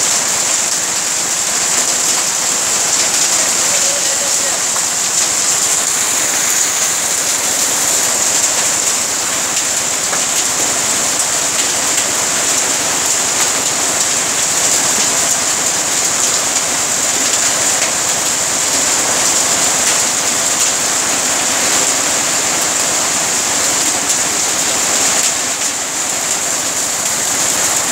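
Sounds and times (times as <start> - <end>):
heavy rain splashing into water: 0.0 - 27.9.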